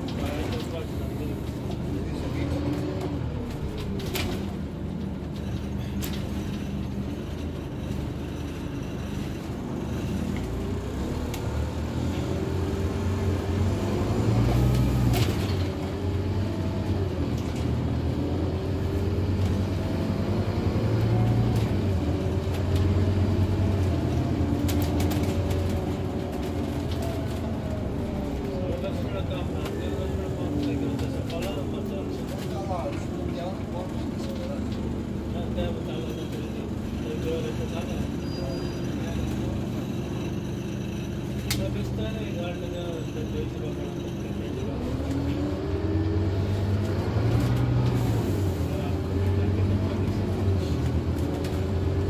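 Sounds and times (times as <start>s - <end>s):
bus engine from inside: 0.0s - 52.0s.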